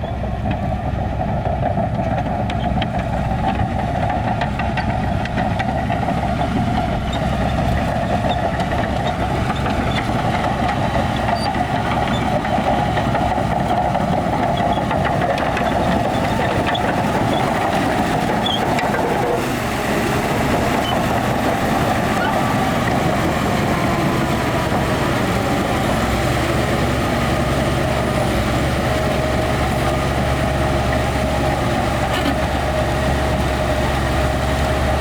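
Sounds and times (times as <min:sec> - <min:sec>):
diesel machinery engine running: 0:00.0 - 0:35.0.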